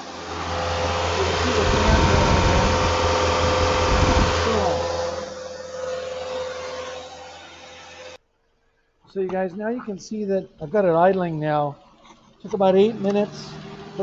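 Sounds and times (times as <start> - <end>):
car engine idling hum: 0.0 - 8.2, 9.2 - 14.0
radiator fans rushing air: 0.0 - 8.2, 9.2 - 14.0.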